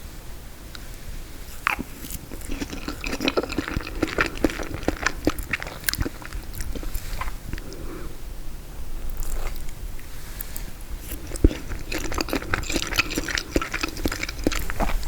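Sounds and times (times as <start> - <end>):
crunchy biting and chewing: 1.5 - 8.0, 9.0 - 15.0.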